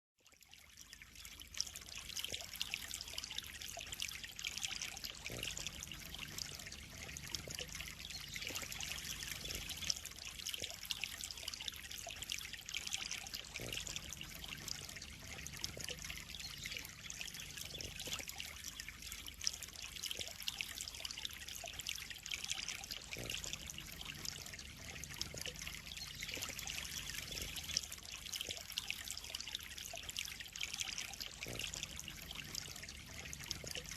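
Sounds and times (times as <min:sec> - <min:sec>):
water trickling into pond: 0:00.2 - 0:33.9.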